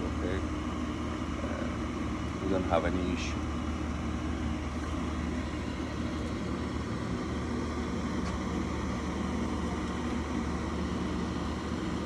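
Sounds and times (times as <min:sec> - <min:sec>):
furnace humming: 0:00.0 - 0:12.0.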